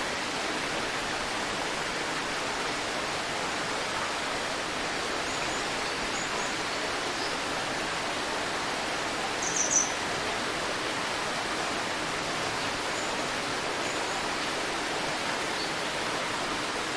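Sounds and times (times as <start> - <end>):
river water flowing: 0.0 - 16.9.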